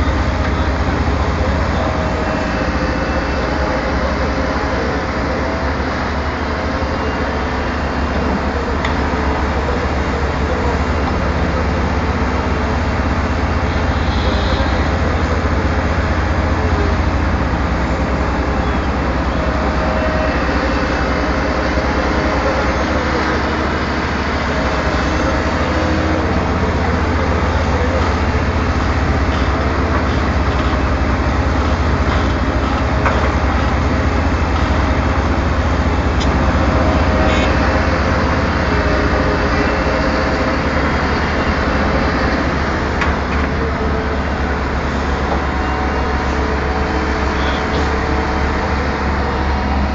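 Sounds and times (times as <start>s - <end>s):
excavator diesel engine drone: 0.0s - 49.9s.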